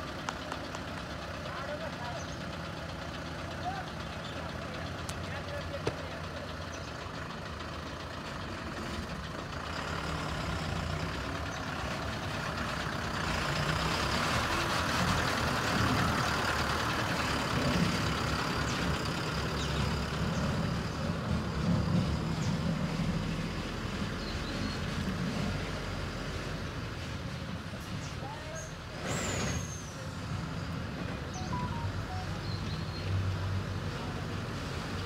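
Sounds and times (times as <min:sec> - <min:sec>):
diesel truck engine driving: 0:00.0 - 0:35.0.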